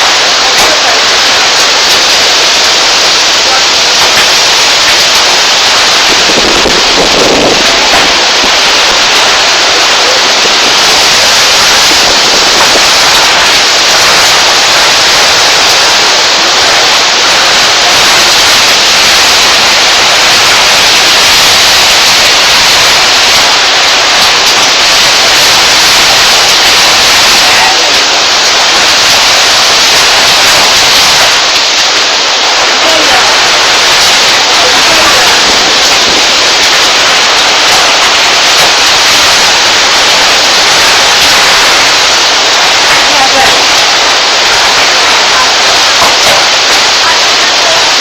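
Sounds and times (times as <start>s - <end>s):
heavy rain pouring: 0.0s - 48.0s.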